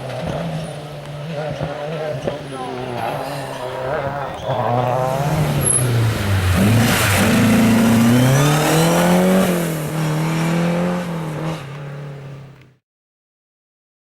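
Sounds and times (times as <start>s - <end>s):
rally car engine accelerating: 0.0s - 12.7s.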